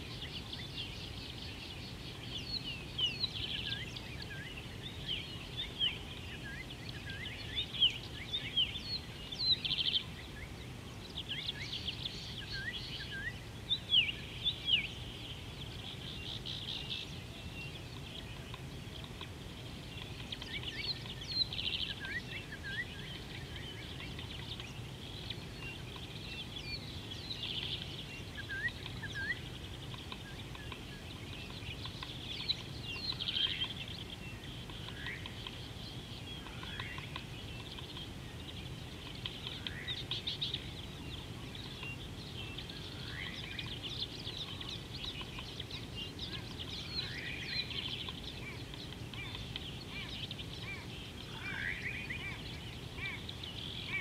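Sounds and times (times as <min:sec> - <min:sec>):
wild birds chirping: 0:00.0 - 0:54.0.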